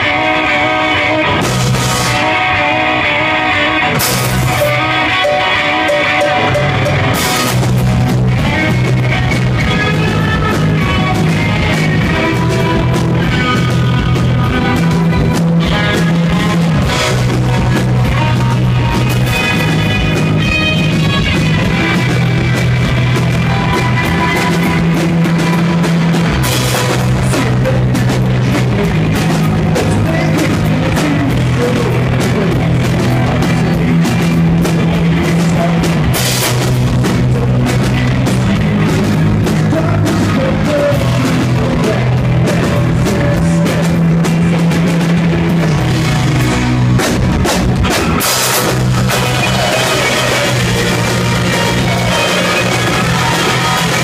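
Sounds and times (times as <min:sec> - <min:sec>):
drum kit: 0:00.0 - 0:54.0
strummed electric guitars: 0:00.0 - 0:54.0.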